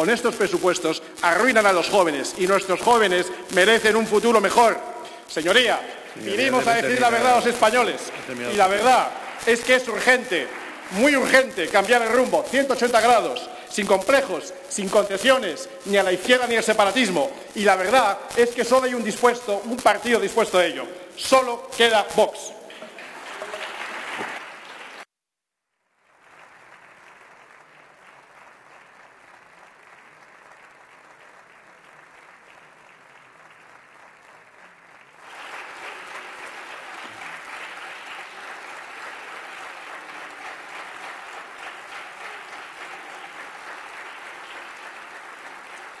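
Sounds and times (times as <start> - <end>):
people clapping: 0.0 - 25.1, 26.0 - 46.0.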